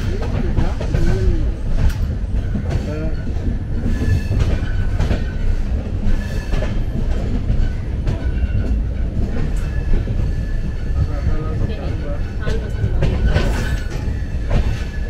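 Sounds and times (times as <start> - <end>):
rail clicks and clatter: 0.0 - 15.0
train rumble from inside coach: 0.0 - 15.0.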